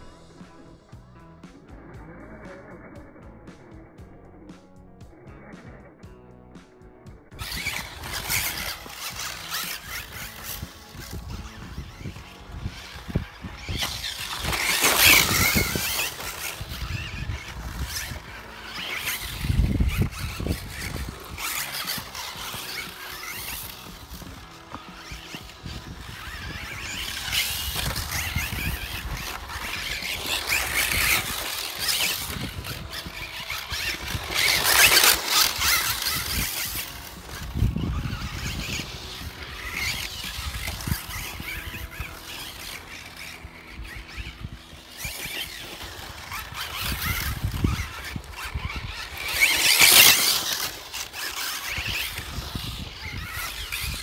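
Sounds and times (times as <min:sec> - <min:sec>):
rc car motor and gear whine: 0:07.2 - 0:54.0
tyres scrabbling over dirt: 0:07.4 - 0:54.0.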